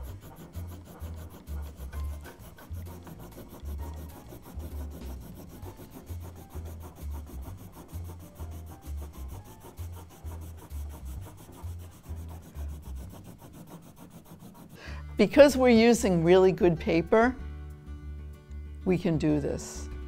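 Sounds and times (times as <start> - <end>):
pencil rubbing on paper: 0.0 - 16.2.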